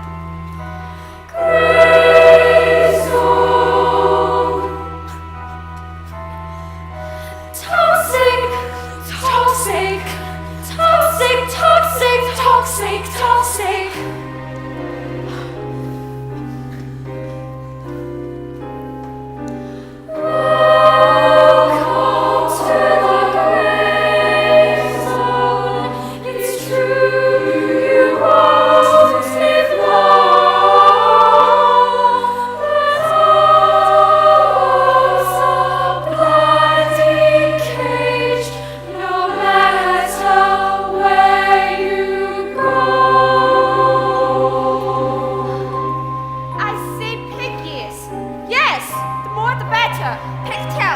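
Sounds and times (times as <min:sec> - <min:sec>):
choir singing: 0:00.0 - 0:06.2, 0:07.5 - 0:17.4, 0:20.0 - 0:50.9
instrumental accompaniment: 0:00.0 - 0:50.9.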